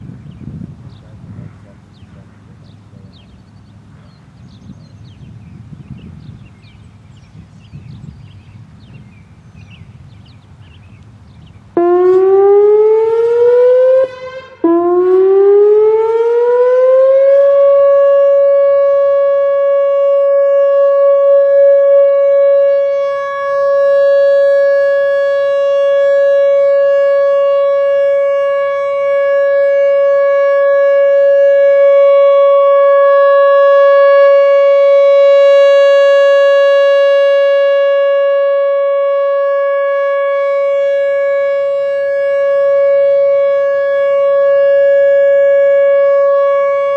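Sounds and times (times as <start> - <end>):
electronic warning siren: 4.8 - 46.9.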